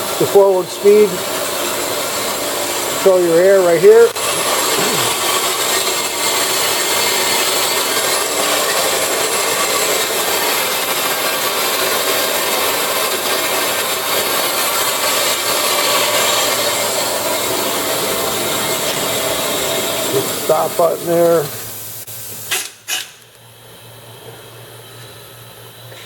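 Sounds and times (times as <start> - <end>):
band saw running: 0.0 - 21.8.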